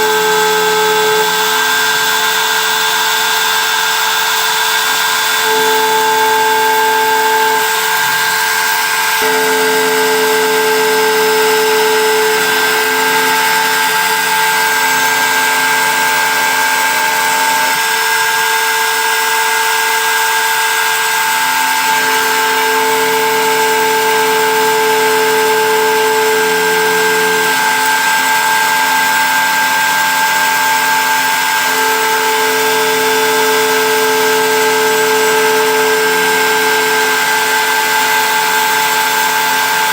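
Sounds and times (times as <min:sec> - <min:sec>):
engraving machine high-pitched whine: 0:00.0 - 0:39.9
low motor tones: 0:00.0 - 0:39.9.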